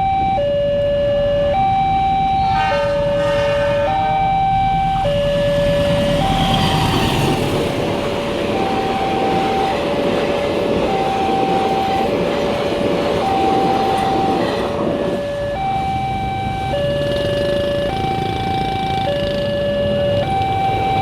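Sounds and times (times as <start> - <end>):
level crossing two-tone alarm: 0.0 - 7.8, 8.4 - 21.0
train passing: 1.2 - 21.0.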